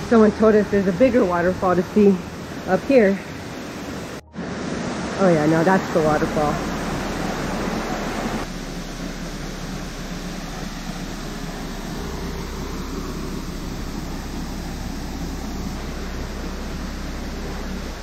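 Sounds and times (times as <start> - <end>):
low rumble: 0.0 - 18.0
waterfall rushing into pool: 0.1 - 18.0.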